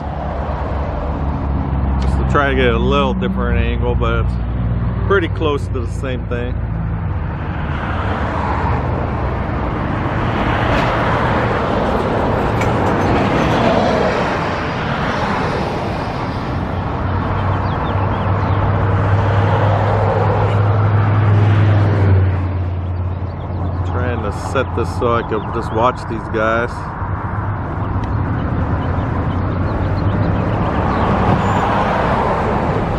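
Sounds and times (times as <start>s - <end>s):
cars passing: 0.0s - 32.9s.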